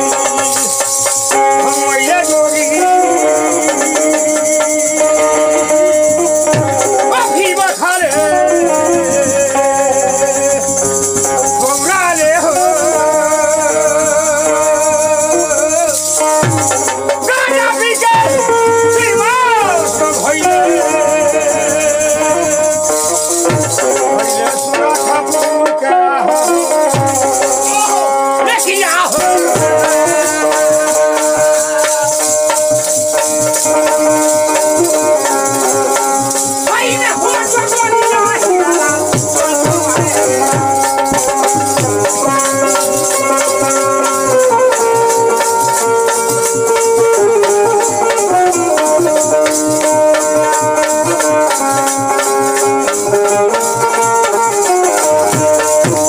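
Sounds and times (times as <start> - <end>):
wooden clappers rattling: 0.0 - 25.7, 26.4 - 56.0
hand drum strokes: 0.0 - 56.0
harmonium: 0.0 - 56.0
man singing: 0.0 - 56.0.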